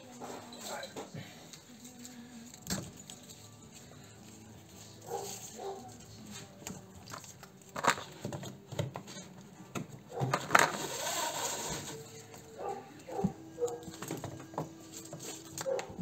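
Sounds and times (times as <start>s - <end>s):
hands rustling and scraping parts: 0.0s - 16.0s.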